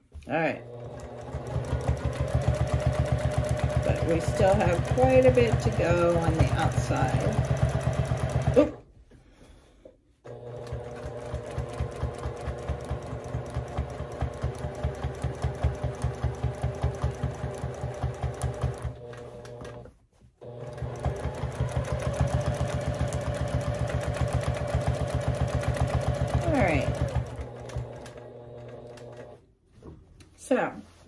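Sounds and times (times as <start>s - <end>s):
sewing machine stitching: 0.3s - 8.8s, 10.3s - 29.4s.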